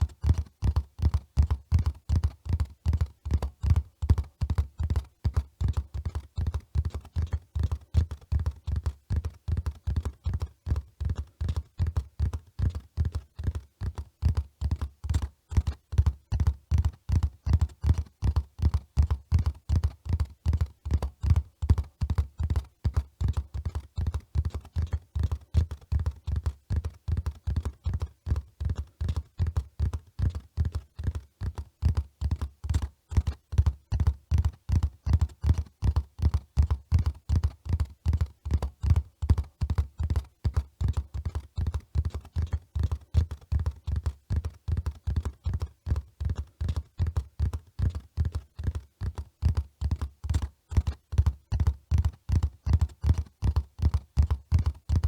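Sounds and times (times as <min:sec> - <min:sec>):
running horse hoofbeats: 0:00.0 - 0:55.0.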